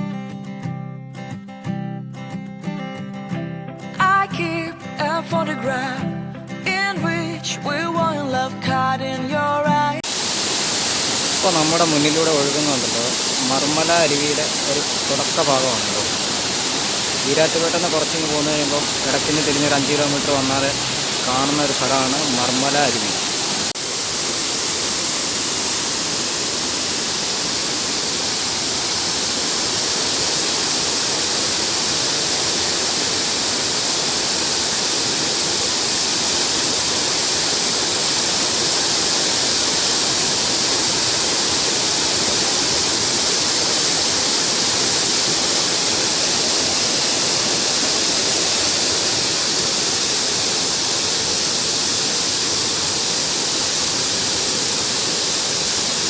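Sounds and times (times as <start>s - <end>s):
stream water rushing: 10.0s - 56.0s.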